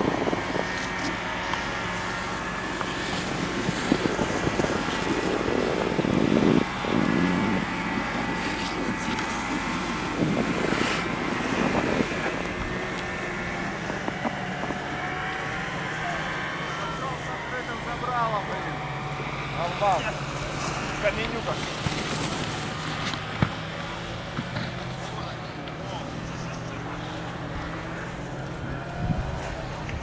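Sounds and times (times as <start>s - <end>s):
snowboards sliding over snow: 0.0s - 30.0s
steady mechanical hum: 0.0s - 30.0s.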